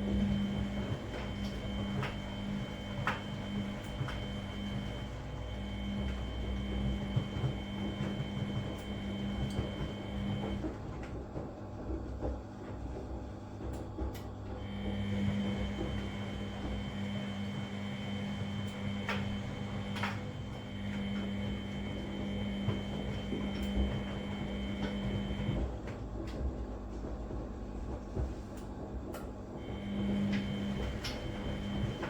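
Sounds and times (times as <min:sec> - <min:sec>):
washing machine motor hum and whine: 0:00.0 - 0:32.0.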